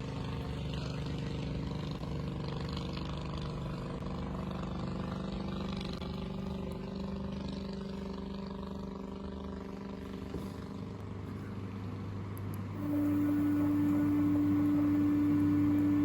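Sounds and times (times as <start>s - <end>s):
engine droning: 0.0s - 16.0s
steady hum on one pitch: 1.8s - 16.0s.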